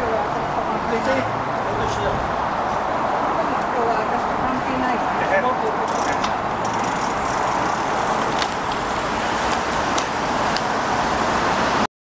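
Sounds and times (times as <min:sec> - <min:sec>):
cars passing on city road: 0:00.0 - 0:11.9.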